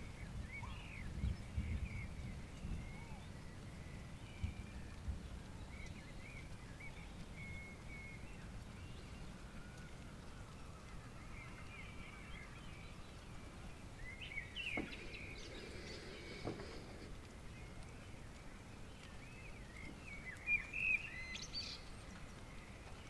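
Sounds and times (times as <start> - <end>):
birds chirping and warbling: 0.0 - 23.0.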